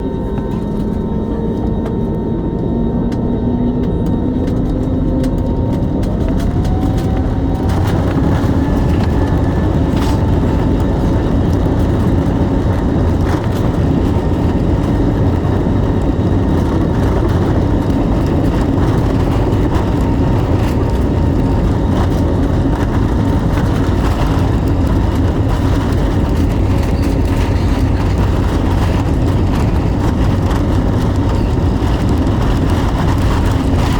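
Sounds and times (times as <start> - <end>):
jet engines spooling up: 0.0 - 33.9.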